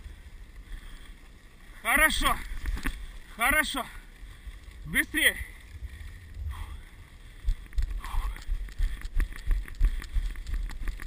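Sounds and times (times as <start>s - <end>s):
low rumble of wind and runners: 0.0s - 11.0s.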